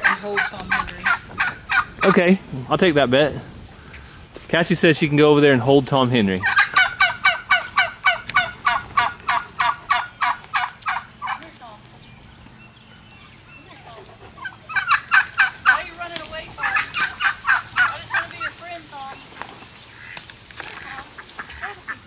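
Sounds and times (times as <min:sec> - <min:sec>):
turkeys calling: 0:00.0 - 0:22.0.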